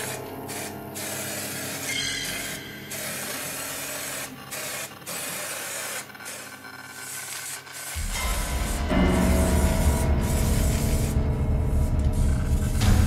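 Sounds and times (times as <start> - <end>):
aerosol spray can hissing: 0.0 - 12.9.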